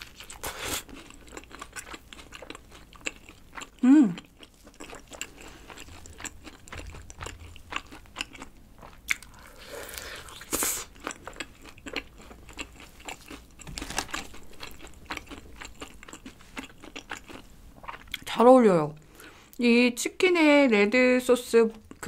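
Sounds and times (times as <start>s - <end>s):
chewing fried chicken crunches: 0.0s - 18.3s.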